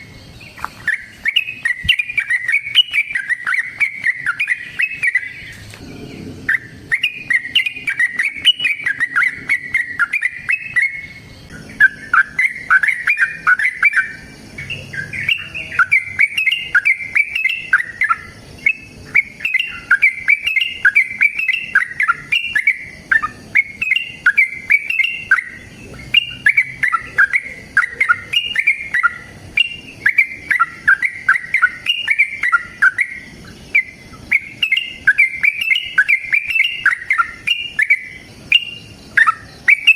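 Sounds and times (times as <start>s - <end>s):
bulbul singing warbling phrases: 0.0s - 39.9s.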